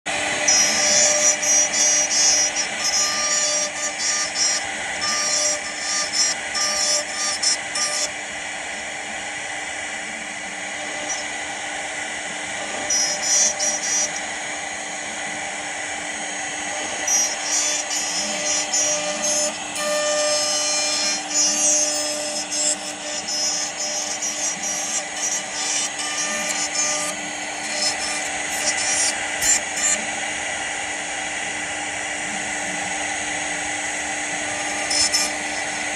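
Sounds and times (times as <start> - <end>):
cnc router cutting wood: 0.1 - 35.9
high-pitched motor whines: 0.1 - 35.9.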